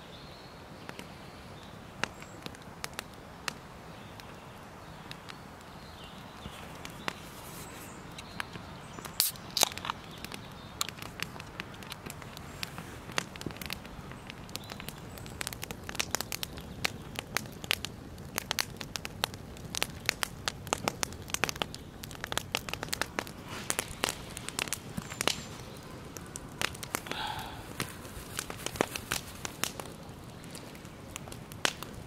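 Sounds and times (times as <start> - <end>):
campfire crackling: 0.0 - 32.0
steady low hiss: 0.0 - 32.0
sharp pops and snaps: 0.8 - 3.6, 5.0 - 32.0.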